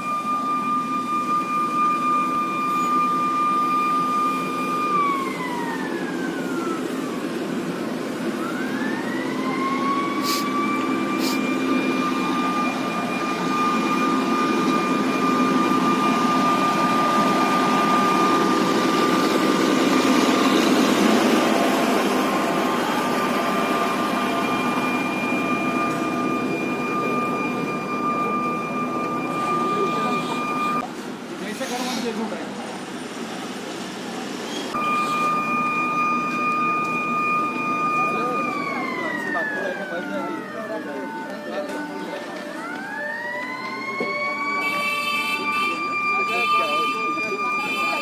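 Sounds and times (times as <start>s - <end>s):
emergency alarm siren wailing: 0.0s - 30.8s, 34.7s - 48.0s.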